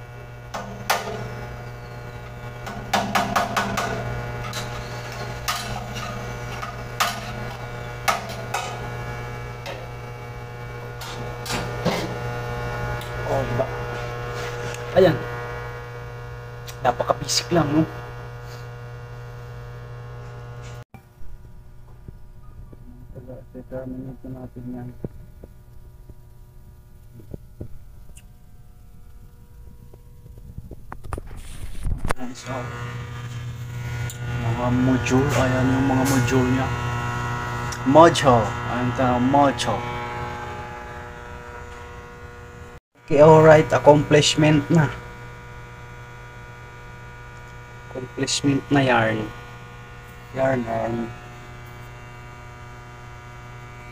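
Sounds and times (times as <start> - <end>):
electrical mains hum: 0.0 - 53.9.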